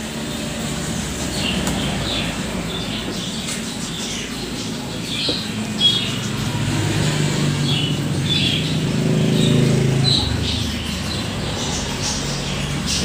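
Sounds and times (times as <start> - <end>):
low motor hum: 0.0 - 13.0
small birds chirping: 0.0 - 13.0.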